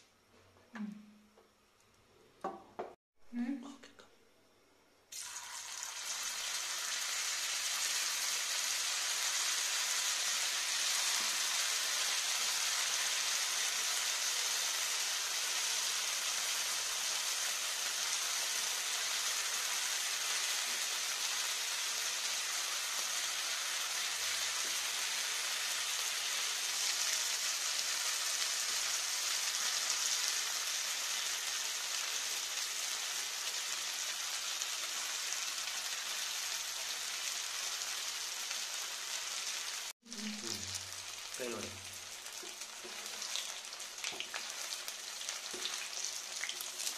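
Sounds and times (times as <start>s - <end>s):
potatoes sizzling in hot oil: 5.1s - 46.9s.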